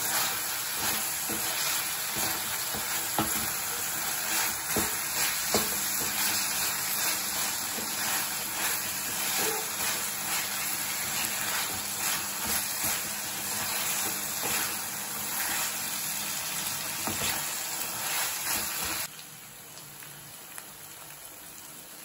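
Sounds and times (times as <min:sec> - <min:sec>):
wooden spatula scraping: 0:00.0 - 0:19.1
chicken sizzling in oil: 0:00.0 - 0:22.0.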